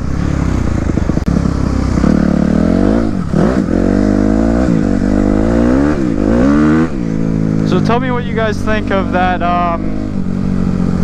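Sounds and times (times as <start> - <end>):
dirt bike engine accelerating: 0.0 - 11.0.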